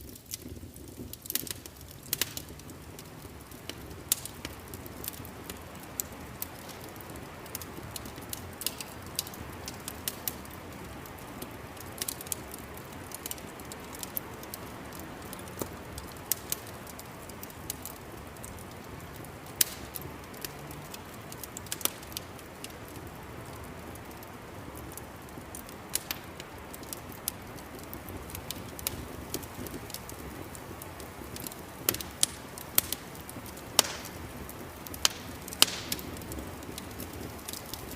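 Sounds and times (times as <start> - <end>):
low rush of flame: 0.0 - 37.9
wood fire crackling: 0.0 - 37.9.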